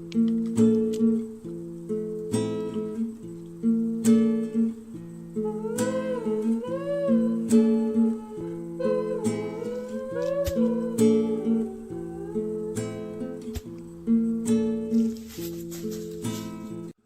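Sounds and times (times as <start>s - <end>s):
sliding guitar melody: 0.0s - 17.0s
strummed acoustic guitar chords: 0.0s - 17.0s.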